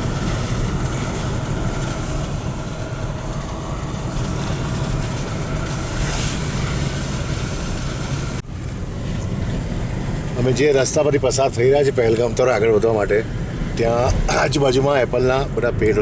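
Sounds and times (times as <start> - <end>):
car driving on road: 0.0 - 16.0.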